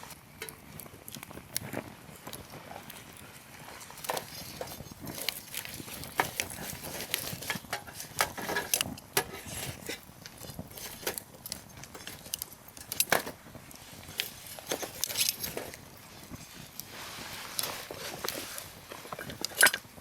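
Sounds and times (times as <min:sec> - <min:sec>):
bonfire crackling and popping: 0:00.0 - 0:20.0.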